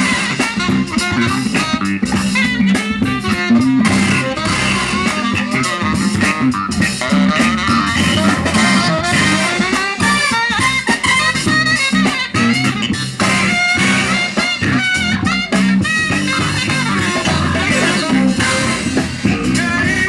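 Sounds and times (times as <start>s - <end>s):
bass line: 0.0s - 20.0s
bending lead melody: 0.0s - 20.0s
drums: 0.0s - 20.0s
live funk band: 0.0s - 20.0s.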